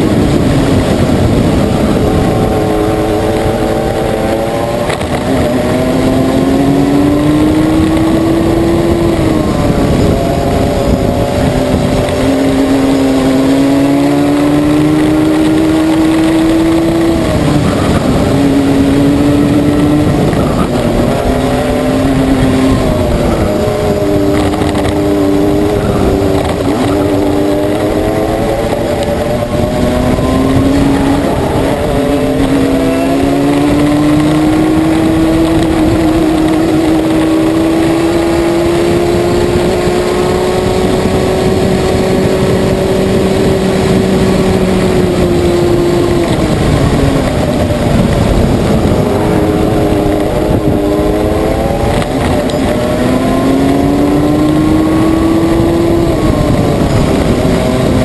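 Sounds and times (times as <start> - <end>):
racing kart engine at full throttle: 0.0 - 58.0
rumble of wind and tyres: 0.0 - 58.0.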